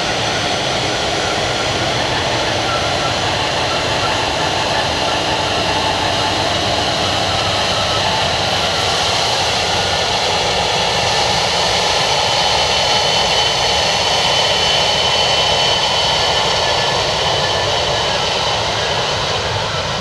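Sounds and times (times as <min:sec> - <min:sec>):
jet engines whining while taxiing: 0:00.0 - 0:20.0.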